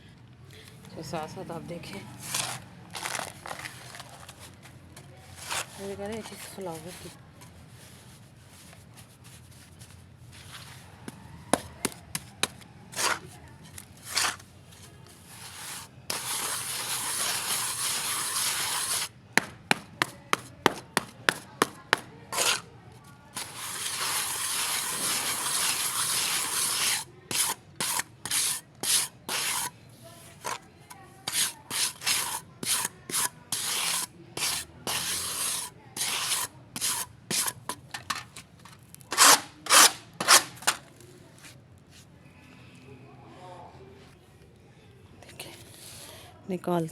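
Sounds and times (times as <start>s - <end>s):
paste stirred and scraped: 2.2s - 4.6s, 5.2s - 40.9s.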